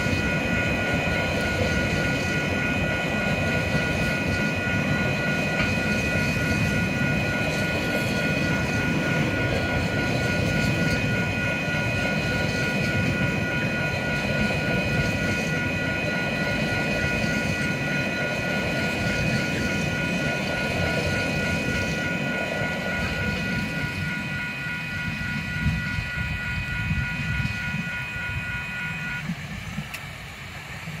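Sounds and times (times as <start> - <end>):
crossing warning bells ringing: 0.0 - 31.0
freight train wagons rumbling: 0.0 - 31.0.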